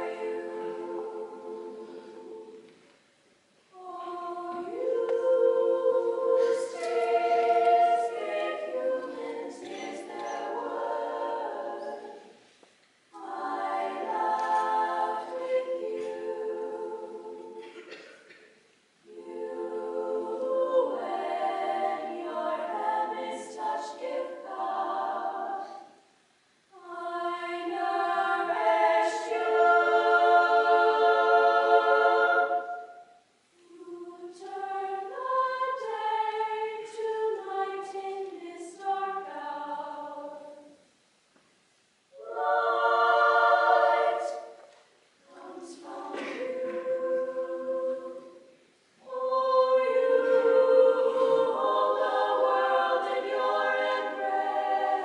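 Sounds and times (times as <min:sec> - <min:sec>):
women's choir singing a cappella: 0:00.0 - 0:02.9, 0:03.7 - 0:18.1, 0:19.0 - 0:40.9, 0:42.1 - 0:55.0.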